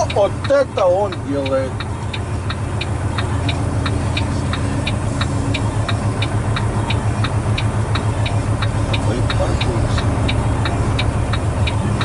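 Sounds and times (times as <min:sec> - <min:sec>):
diesel engine idling: 0:00.0 - 0:12.0
indicator flasher ticking: 0:00.0 - 0:12.0.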